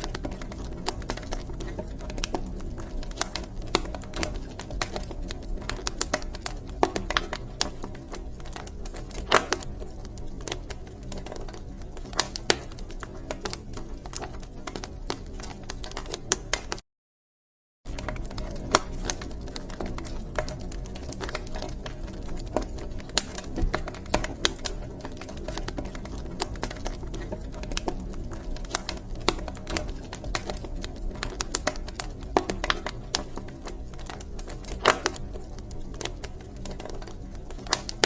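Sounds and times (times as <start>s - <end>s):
wood fire crackling: 0.0s - 16.8s, 17.9s - 38.0s.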